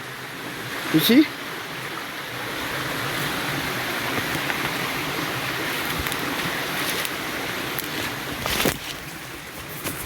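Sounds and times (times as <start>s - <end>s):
flowing stream water: 0.0s - 10.0s.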